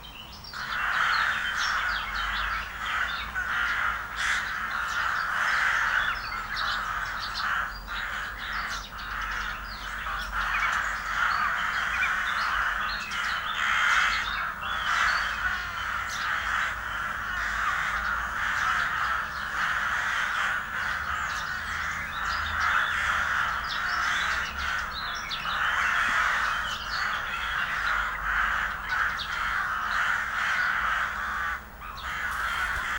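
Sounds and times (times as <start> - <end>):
flock of birds calling: 0.0 - 32.9.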